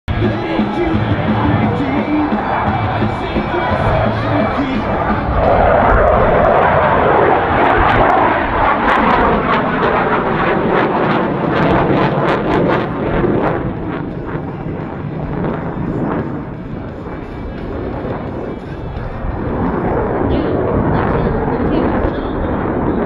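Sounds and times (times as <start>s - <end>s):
jet roaring overhead: 0.1s - 23.0s.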